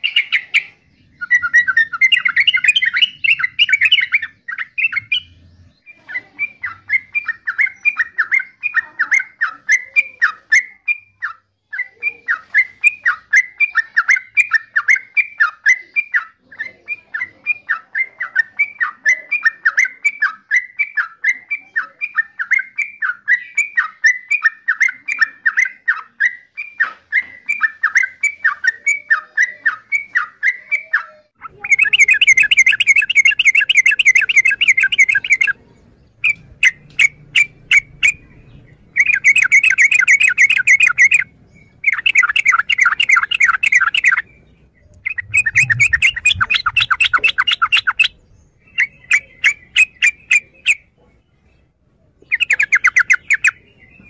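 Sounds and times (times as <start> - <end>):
bird chattering: 0.0 - 54.0.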